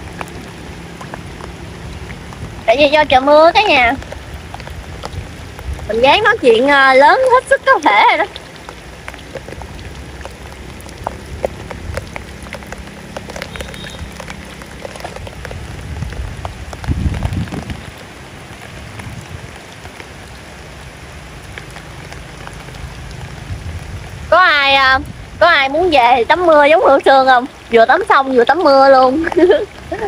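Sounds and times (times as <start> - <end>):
pouring rain: 0.0 - 30.0.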